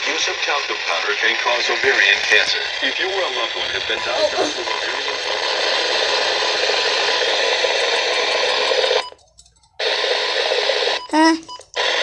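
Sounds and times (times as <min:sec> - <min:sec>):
television static hiss: 0:00.0 - 0:09.2, 0:09.8 - 0:12.0.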